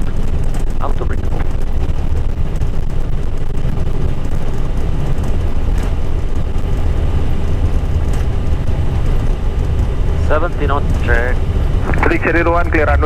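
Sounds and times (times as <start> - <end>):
airliner engine rumble: 0.0 - 13.0
wheels rolling on runway: 0.0 - 13.0.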